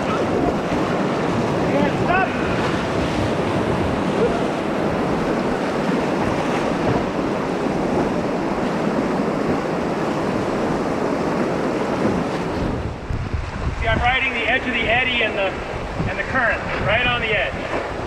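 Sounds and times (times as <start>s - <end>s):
river current rushing: 0.0s - 18.0s
wind buffeting microphone: 0.0s - 18.0s.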